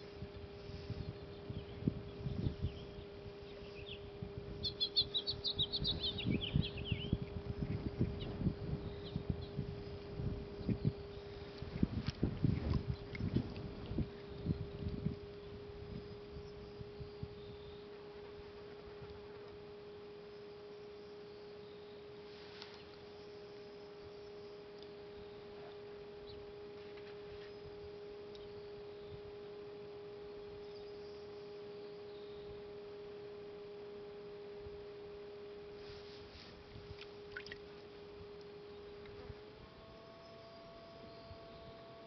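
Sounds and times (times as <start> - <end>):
pottery wheel motor whine: 0.0 - 42.0.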